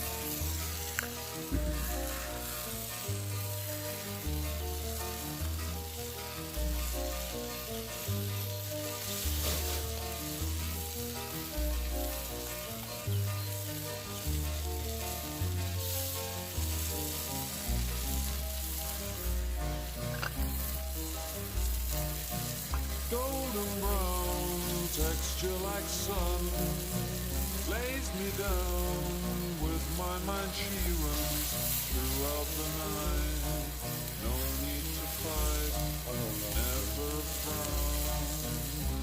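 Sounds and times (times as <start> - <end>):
background music with keyboard: 0.0 - 39.0
food sizzling in a frying pan: 0.0 - 39.0.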